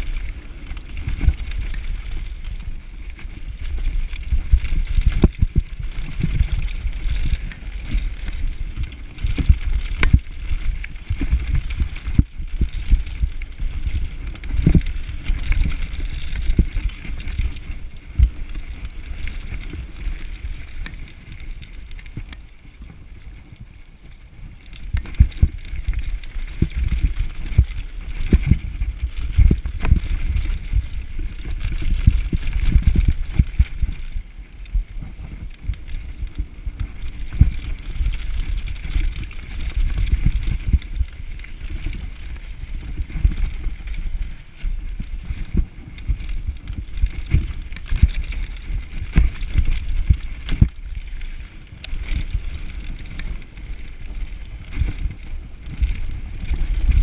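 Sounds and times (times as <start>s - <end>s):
mountain bike rumbling over rough ground: 0.0s - 57.0s.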